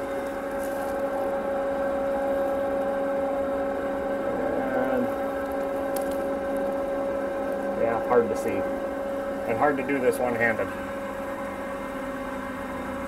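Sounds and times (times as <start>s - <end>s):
fuel pump electric hum: 0.0s - 13.0s.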